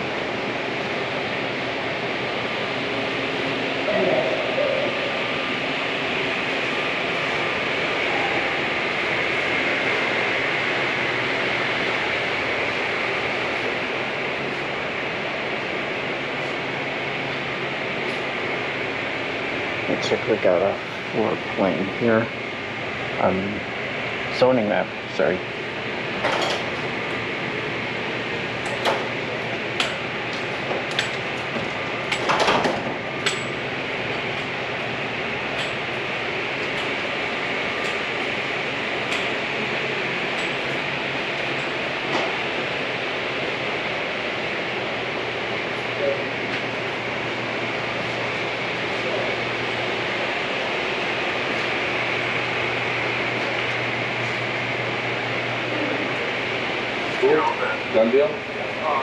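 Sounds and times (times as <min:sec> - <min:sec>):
constant low hum: 0:00.0 - 0:59.0.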